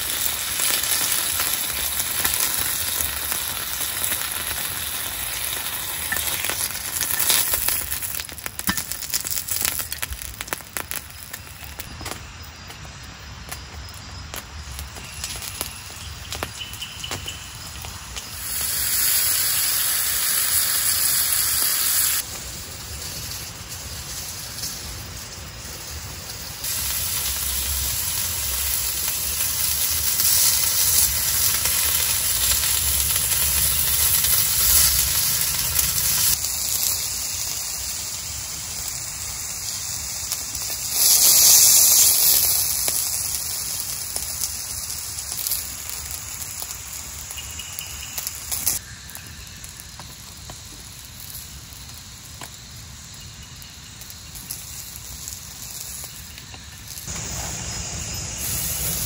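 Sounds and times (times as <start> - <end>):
fish sizzling on a grill pan: 0.0 - 12.8, 14.3 - 59.0
rain hissing: 0.0 - 59.0.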